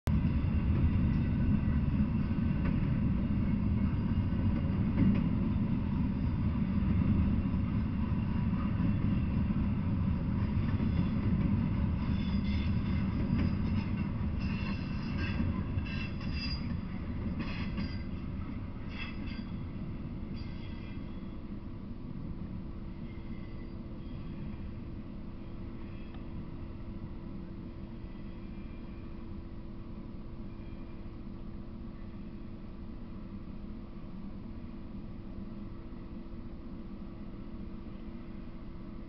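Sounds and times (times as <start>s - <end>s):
freight train rumbling past: 0.1s - 39.0s.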